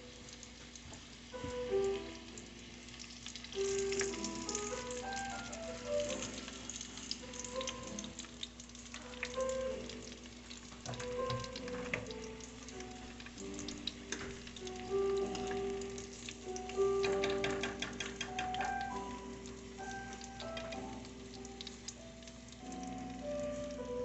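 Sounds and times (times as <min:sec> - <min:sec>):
food deep-frying in hot oil: 0:00.0 - 0:24.0
simple melody: 0:01.3 - 0:02.6, 0:03.5 - 0:24.0.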